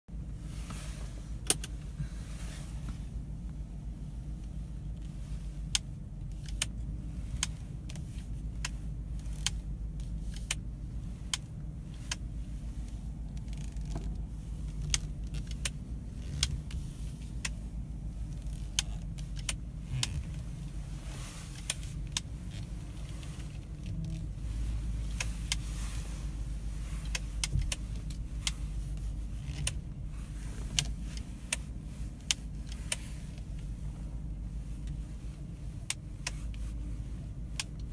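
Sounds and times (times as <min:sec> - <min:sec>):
car engine droning: 0:00.1 - 0:37.9.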